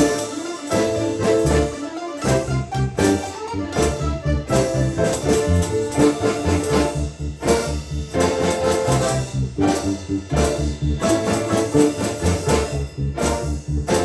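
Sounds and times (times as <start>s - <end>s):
driving bass beat: 0.0s - 14.0s
folk instrument orchestra playing: 0.0s - 14.0s.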